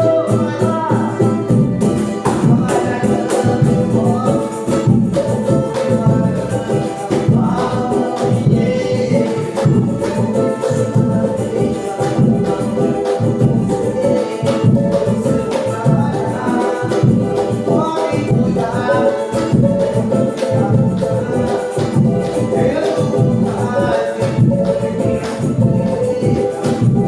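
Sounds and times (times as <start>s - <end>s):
band with singing voice: 0.0s - 27.0s.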